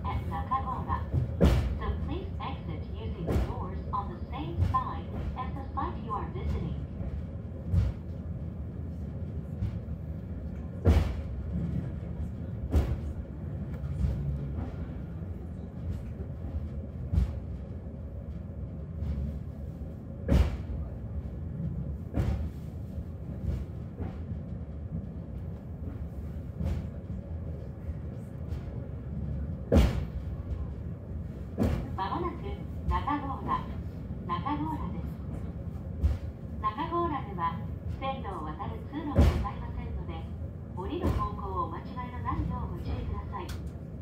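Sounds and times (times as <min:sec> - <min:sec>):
cable car rumbling on rails: 0:00.0 - 0:44.0.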